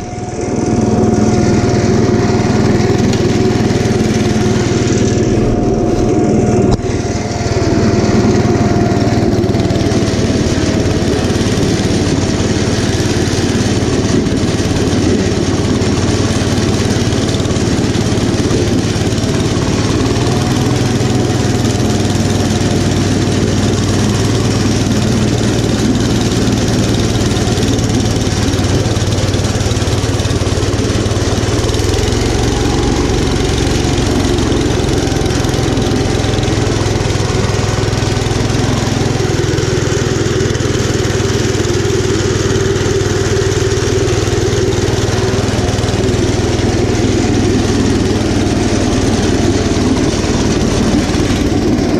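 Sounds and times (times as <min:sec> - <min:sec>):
single-cylinder engine running: 0:00.0 - 0:51.9
snowblower whine: 0:00.0 - 0:51.9.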